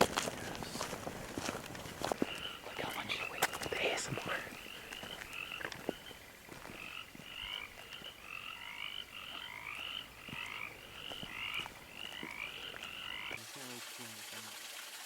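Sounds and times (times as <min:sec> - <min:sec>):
frogs chirping: 0:00.0 - 0:13.4.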